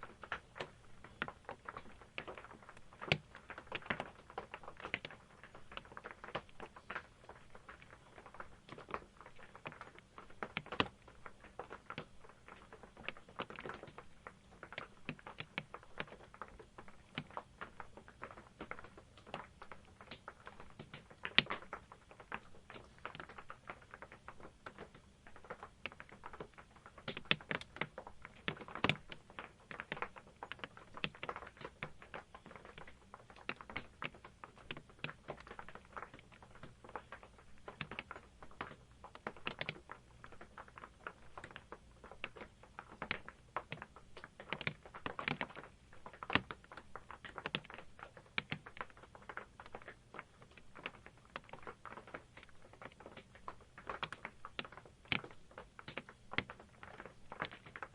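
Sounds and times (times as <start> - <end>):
raindrops tapping on roof: 0.0 - 57.9.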